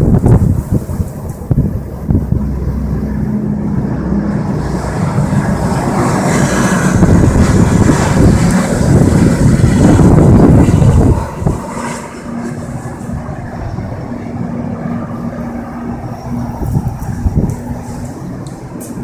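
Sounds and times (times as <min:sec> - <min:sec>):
vehicle engine hum: 0:00.0 - 0:19.0
wind buffeting microphone: 0:00.0 - 0:19.0.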